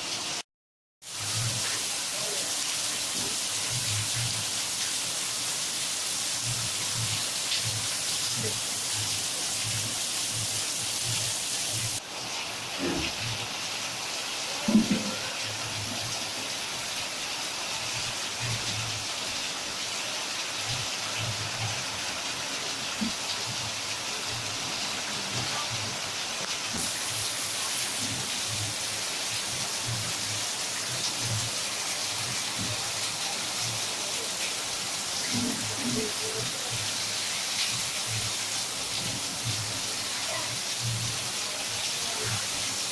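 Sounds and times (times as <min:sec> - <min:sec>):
heavy rain hissing: 0:01.0 - 0:42.9.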